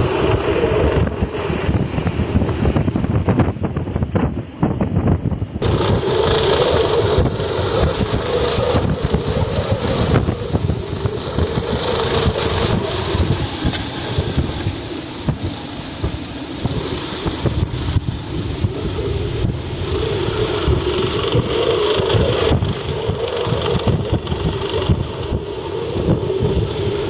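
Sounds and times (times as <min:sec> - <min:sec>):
hurricane winds buffeting microphone: 0:00.0 - 0:27.0.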